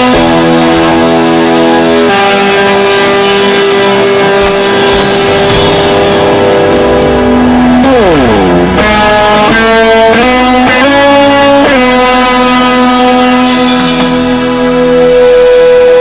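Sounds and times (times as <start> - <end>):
electric guitar sustained chord: 0.0 - 16.0.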